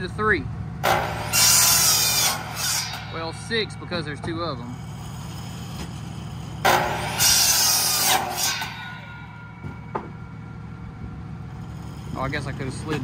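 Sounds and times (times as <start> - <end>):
steady low hum: 0.0 - 13.0
miter saw cutting wood: 0.8 - 13.0.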